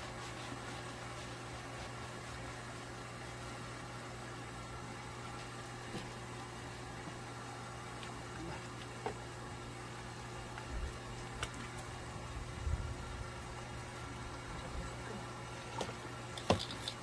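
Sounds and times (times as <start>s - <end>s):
constant hiss: 0.0s - 17.0s
low mechanical hum: 0.0s - 17.0s.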